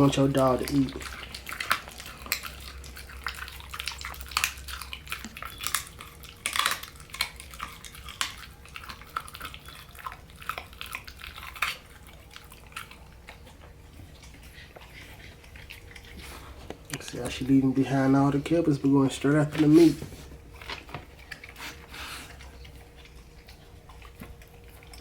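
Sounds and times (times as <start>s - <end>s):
puppy crunching and smacking food: 0.0s - 25.0s.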